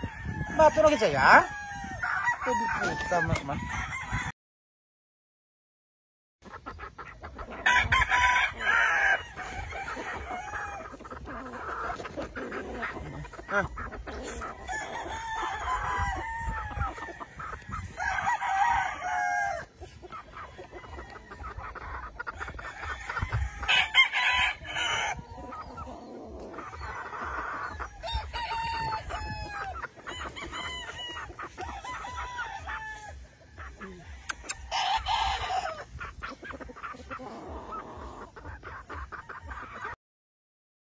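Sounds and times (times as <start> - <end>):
roosters crowing: 0.0 - 4.3, 7.4 - 40.0
rooster clucking: 6.4 - 40.0.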